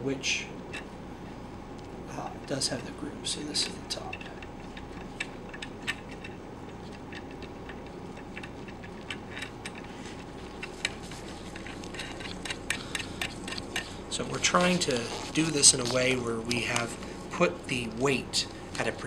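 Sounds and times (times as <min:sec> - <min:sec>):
steady low hum: 0:00.0 - 0:19.0
metal parts clicking and tapping: 0:03.6 - 0:19.0.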